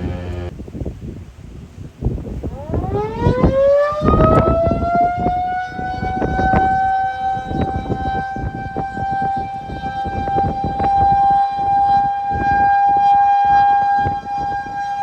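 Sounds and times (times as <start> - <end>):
gusty low rumble: 0.0 - 15.0
warning siren wailing: 2.3 - 15.0.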